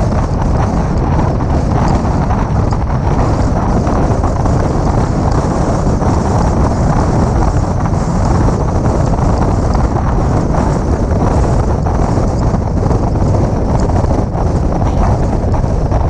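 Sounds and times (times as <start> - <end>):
road and engine noise: 0.0 - 16.0
wind rush on microphone: 0.0 - 16.0.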